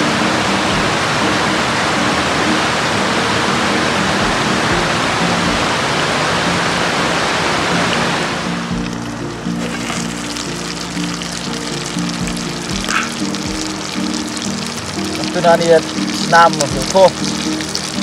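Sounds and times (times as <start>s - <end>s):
soft background music: 0.0s - 18.0s
stream rushing over rocks: 0.0s - 18.0s.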